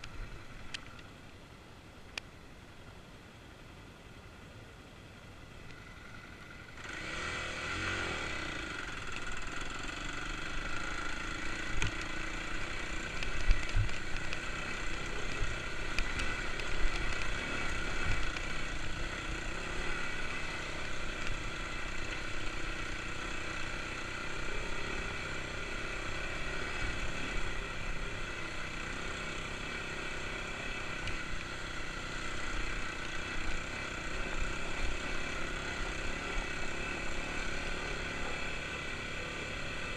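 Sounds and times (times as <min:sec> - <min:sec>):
motorcycle engine running: 0:05.5 - 0:39.9.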